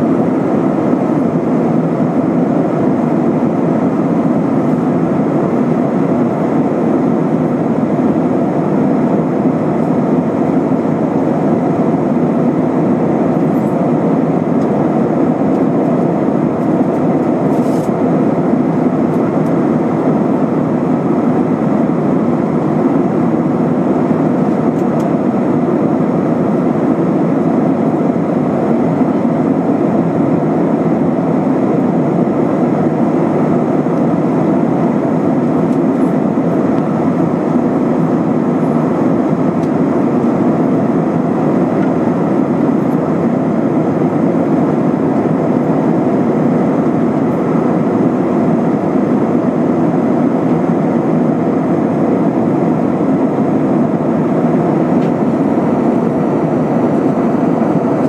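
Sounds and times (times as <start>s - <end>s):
aircraft cabin jet engine rush: 0.0s - 58.0s.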